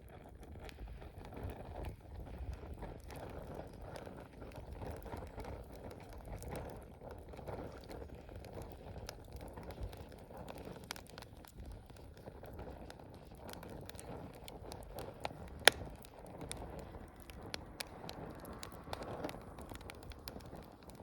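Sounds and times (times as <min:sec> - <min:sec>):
campfire flames rushing: 0:00.0 - 0:21.0
wood crackling and popping: 0:00.0 - 0:21.0.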